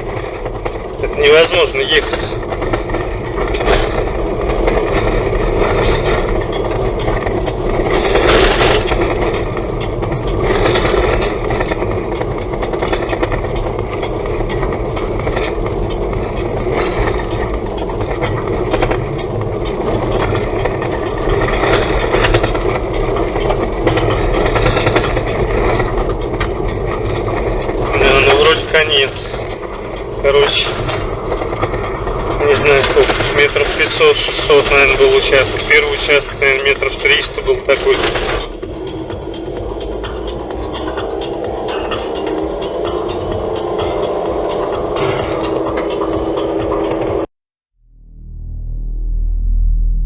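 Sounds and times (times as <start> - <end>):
vehicle road rumble: 0.0 - 50.0.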